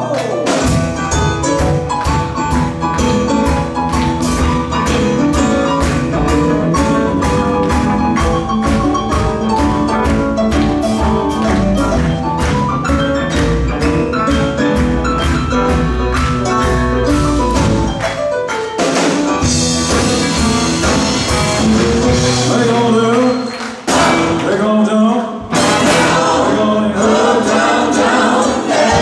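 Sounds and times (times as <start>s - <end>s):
drums keeping a steady beat: 0.0s - 24.4s, 25.5s - 26.5s
rhythm and blues band playing: 0.0s - 29.0s.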